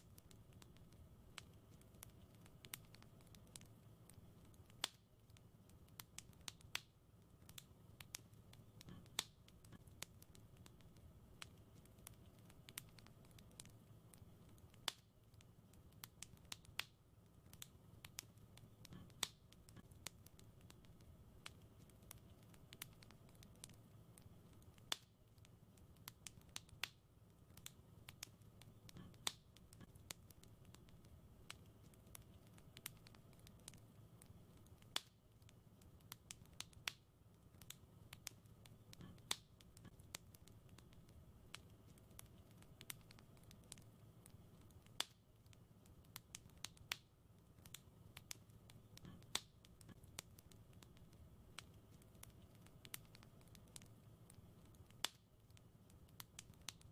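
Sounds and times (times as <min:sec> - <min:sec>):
soft low hum: 0:00.0 - 0:46.6, 0:47.2 - 0:56.9
fire crackling and popping: 0:00.0 - 0:56.9.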